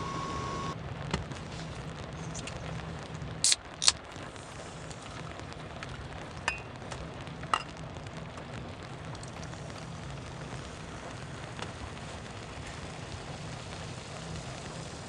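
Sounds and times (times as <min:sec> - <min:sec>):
rain patter: 0:00.2 - 0:15.0.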